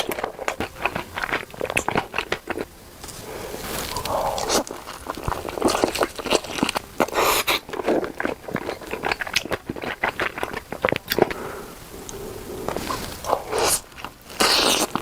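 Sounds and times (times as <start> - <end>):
person chewing sausage: 0.0 - 15.0.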